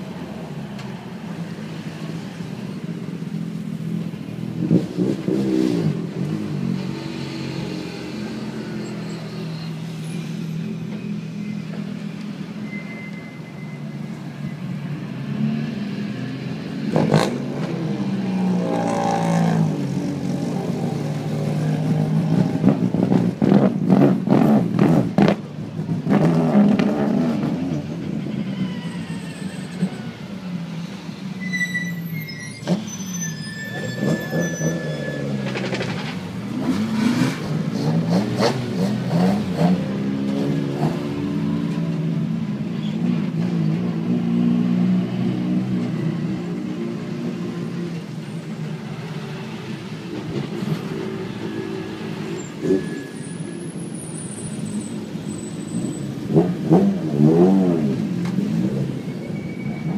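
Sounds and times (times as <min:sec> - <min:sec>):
rally car engines revving: 0:03.9 - 0:10.4, 0:15.0 - 0:30.7, 0:32.5 - 0:59.9.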